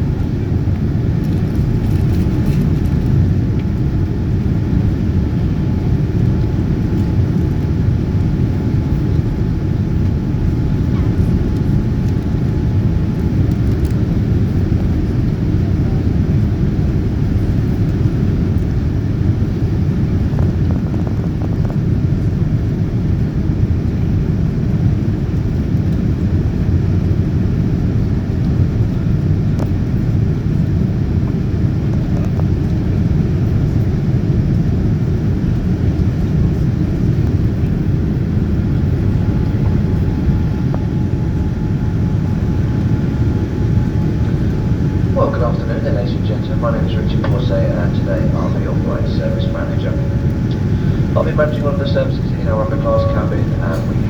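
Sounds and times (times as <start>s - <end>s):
airliner cabin roar: 0.0s - 54.0s.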